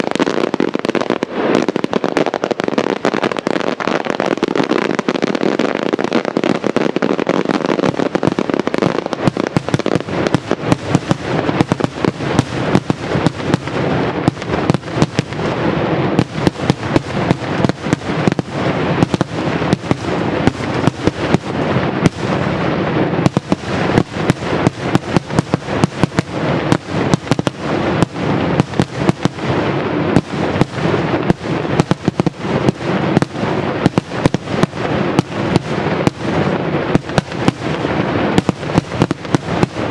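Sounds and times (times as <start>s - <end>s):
fireworks bangs and cracks: 0.0s - 39.9s
rumbling crackle: 0.0s - 39.9s.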